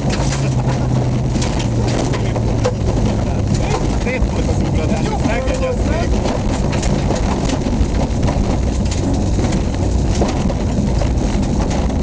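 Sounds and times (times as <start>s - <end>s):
car engine droning: 0.0s - 12.0s
gravel striking car: 0.0s - 12.0s.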